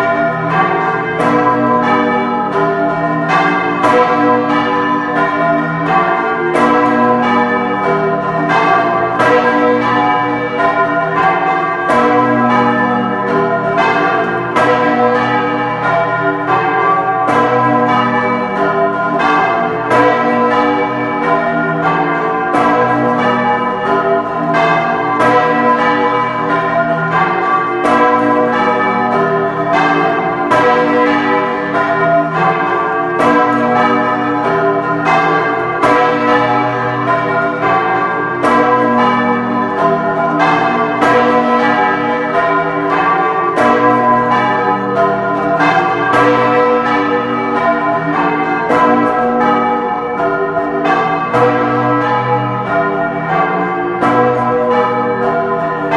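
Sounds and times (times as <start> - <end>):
large bells ringing a peal: 0.0 - 55.9.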